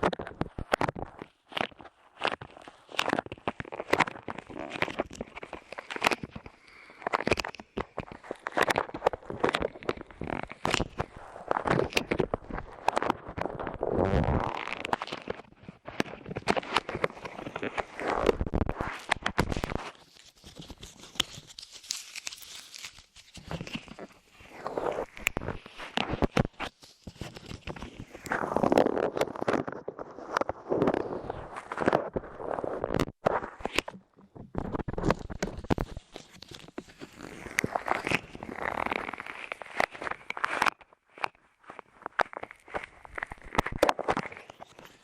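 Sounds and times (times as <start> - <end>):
clay squished close to microphone: 0.0 - 45.0
rustling: 0.6 - 45.0.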